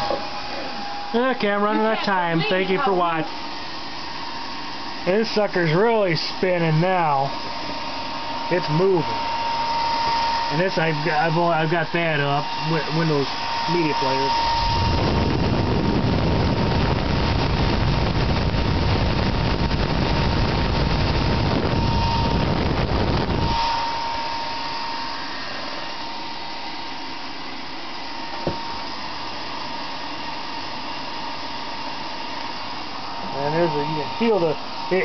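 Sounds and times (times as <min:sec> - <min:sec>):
computer fan rushing air: 0:00.0 - 0:35.0
high whine: 0:00.0 - 0:35.0.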